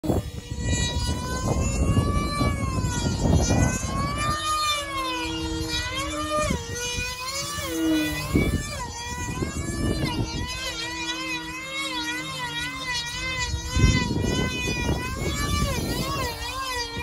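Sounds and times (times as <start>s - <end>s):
model plane motor whine: 0.0s - 17.0s
wind buffeting microphone: 0.0s - 17.0s.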